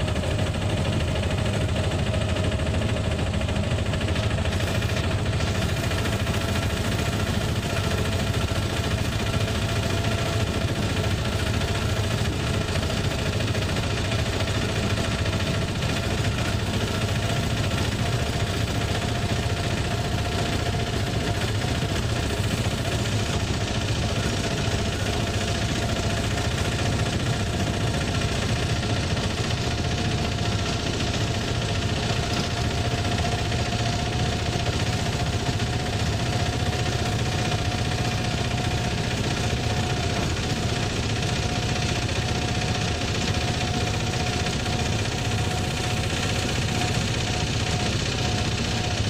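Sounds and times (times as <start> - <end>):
auto-rickshaw engine running: 0.0 - 49.0.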